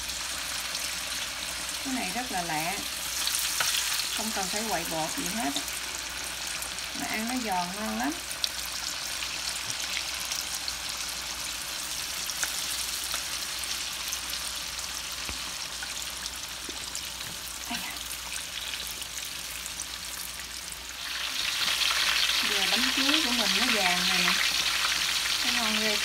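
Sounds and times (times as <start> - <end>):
oil sizzling with pops: 0.0 - 26.0.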